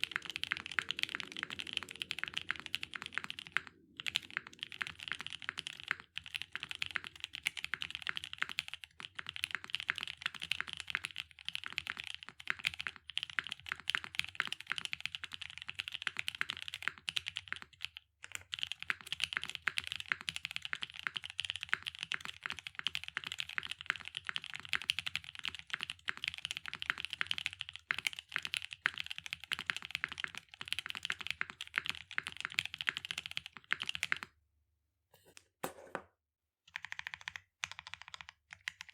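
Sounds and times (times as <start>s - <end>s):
mechanical keyboard typing: 0.0s - 34.2s, 36.7s - 38.9s.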